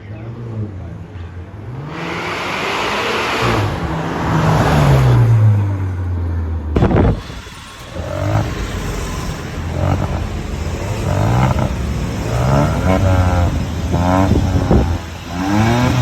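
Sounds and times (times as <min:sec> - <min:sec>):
car engine revving: 0:00.0 - 0:16.0
exhaust crack: 0:01.7 - 0:16.0.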